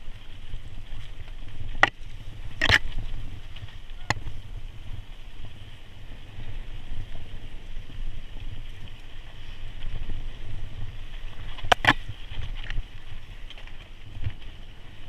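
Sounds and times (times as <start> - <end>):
bike tyres rumbling over rocks: 0.0 - 15.0.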